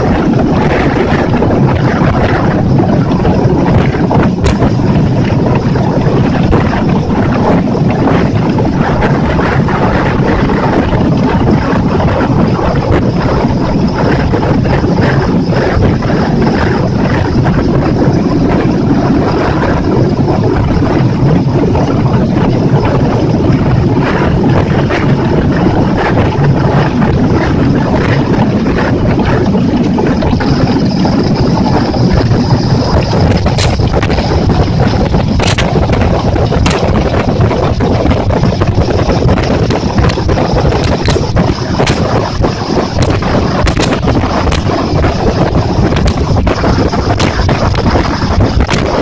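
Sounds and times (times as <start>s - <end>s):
outboard motor running: 0.0s - 49.0s
rushing water: 0.0s - 49.0s
wind buffeting microphone: 0.0s - 49.0s.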